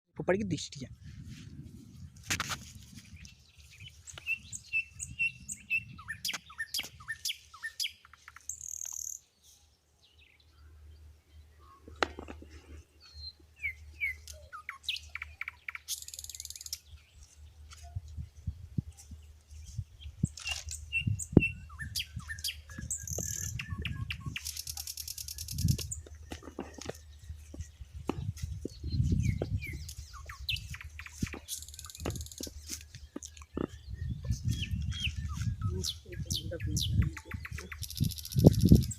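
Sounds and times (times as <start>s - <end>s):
birds chirping: 3.0s - 38.9s.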